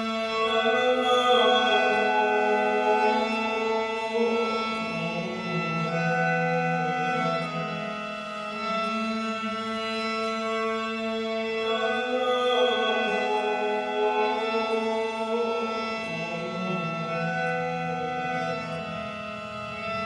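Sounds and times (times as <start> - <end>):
droning vocal chant: 0.0 - 20.0.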